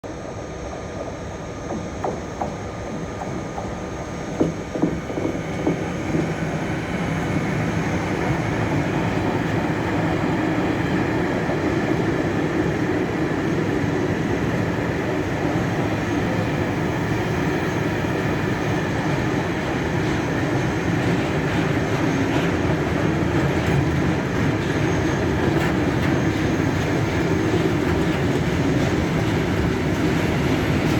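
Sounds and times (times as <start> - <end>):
freight train rumbling: 0.0 - 30.9
train wheels clacking over rail joints: 0.7 - 30.9.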